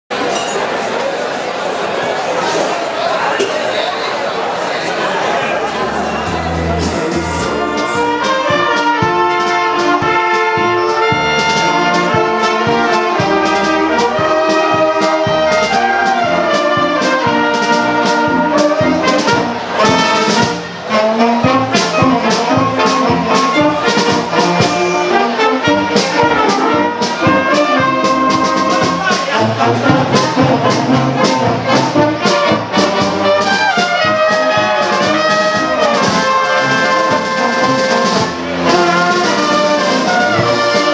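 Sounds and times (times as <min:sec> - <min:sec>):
brass band playing: 0:05.4 - 0:40.9.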